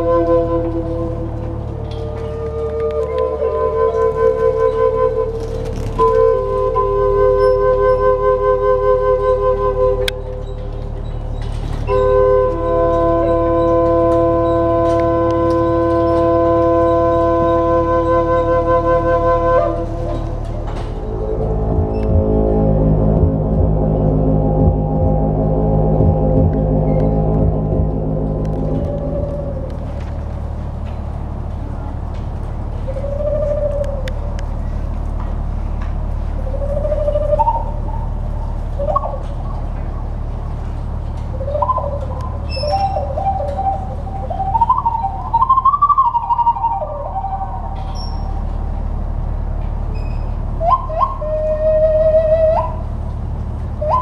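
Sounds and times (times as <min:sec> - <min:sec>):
steady low hum: 0:00.0 - 0:54.0
wooden flute notes: 0:00.0 - 0:54.0.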